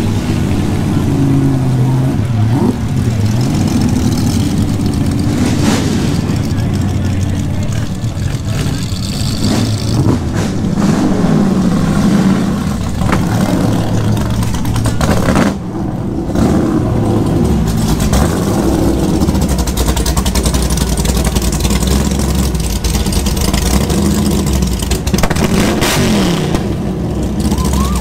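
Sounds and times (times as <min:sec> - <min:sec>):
racing car engine running: 0:00.0 - 0:28.0.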